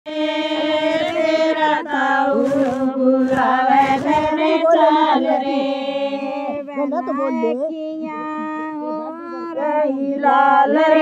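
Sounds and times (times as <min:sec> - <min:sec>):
woman singing folk song: 0:00.1 - 0:11.0.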